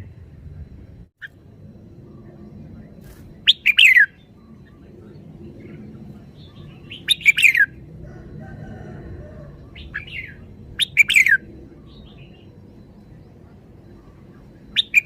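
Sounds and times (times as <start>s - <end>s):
bulbul singing: 0.0s - 15.0s.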